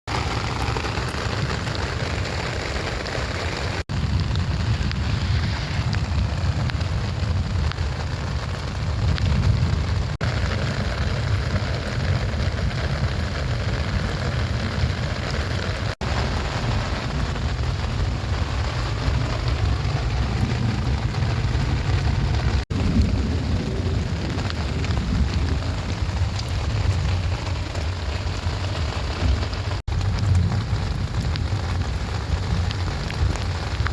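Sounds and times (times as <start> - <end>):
low rumble: 0.1 - 33.9
rain falling steadily: 0.1 - 33.9.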